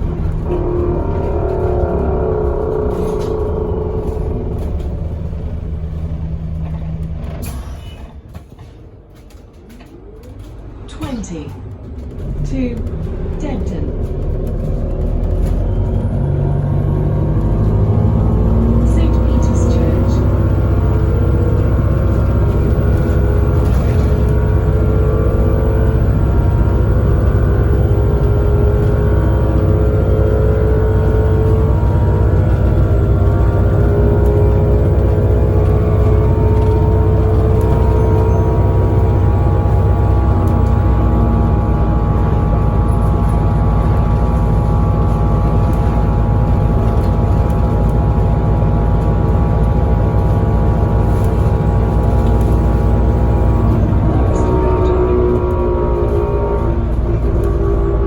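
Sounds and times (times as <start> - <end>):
bus engine rumble with rising whine: 0.0 - 58.0.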